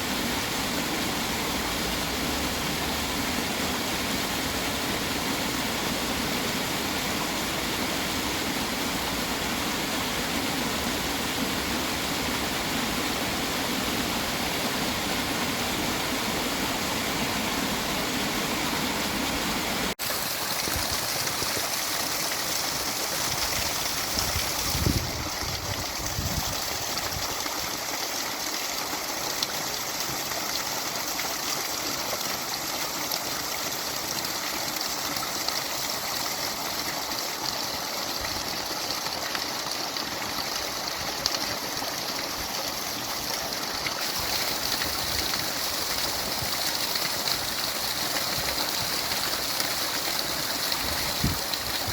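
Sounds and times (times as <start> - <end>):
water rushing: 0.0 - 51.9.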